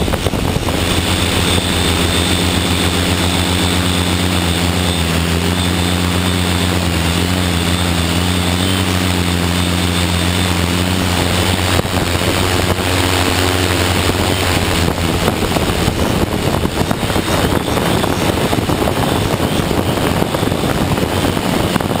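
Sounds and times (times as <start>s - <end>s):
drone propellers humming: 0.0s - 22.0s
wind rushing on microphone: 0.0s - 22.0s.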